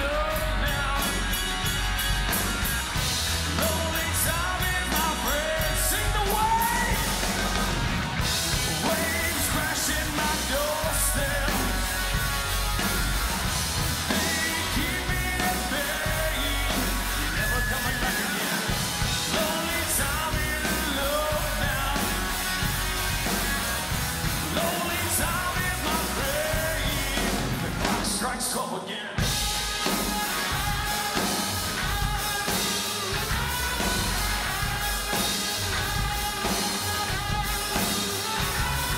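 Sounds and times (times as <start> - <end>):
lead vocal singing: 0.0 - 38.9
rock band playing: 0.0 - 38.9.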